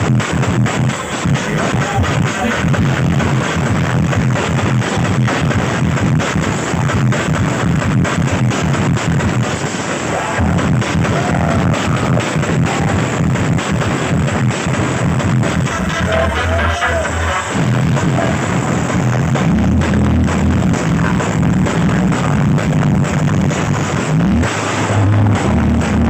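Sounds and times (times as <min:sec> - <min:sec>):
loud bass-heavy music: 0:00.0 - 0:26.0.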